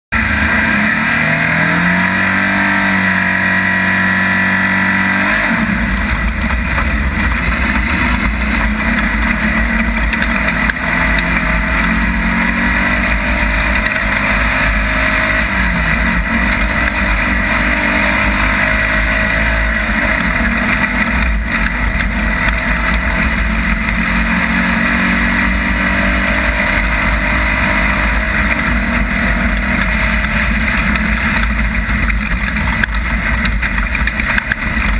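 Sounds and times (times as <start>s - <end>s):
race vehicle engine accelerating: 0.1s - 34.9s.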